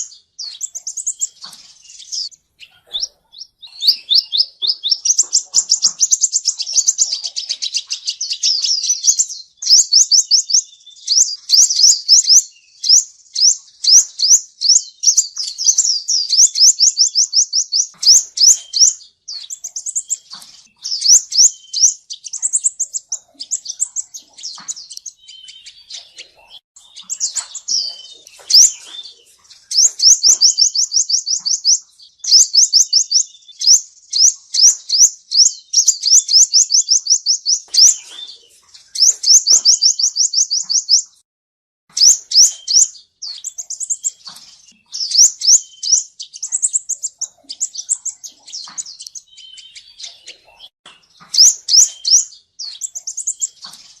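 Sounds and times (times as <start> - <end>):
bird singing high trills: 0.0 - 41.2, 41.9 - 54.0.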